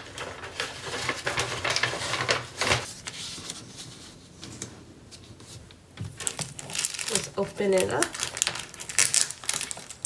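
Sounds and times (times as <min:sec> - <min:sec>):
paper and packaging rustling: 0:00.0 - 0:10.0.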